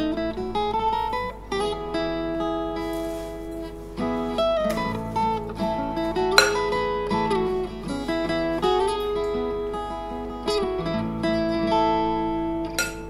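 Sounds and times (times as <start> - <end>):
instrumental melody: 0.0 - 13.0.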